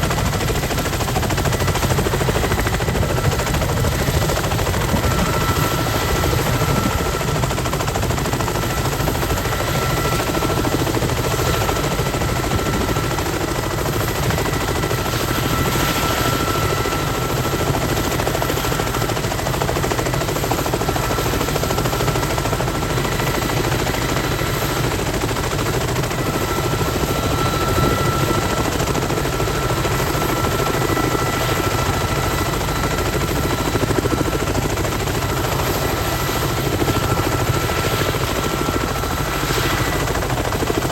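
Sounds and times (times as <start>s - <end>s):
helicopter rotors chopping: 0.0s - 40.9s
turbine engine whine: 0.0s - 40.9s.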